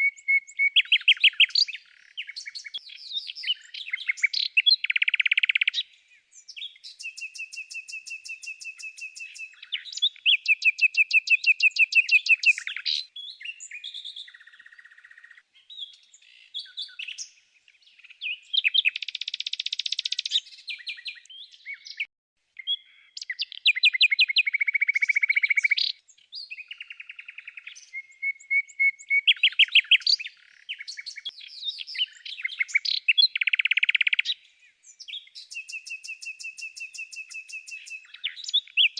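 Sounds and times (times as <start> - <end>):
songbird trills and chirps: 0.0 - 38.9.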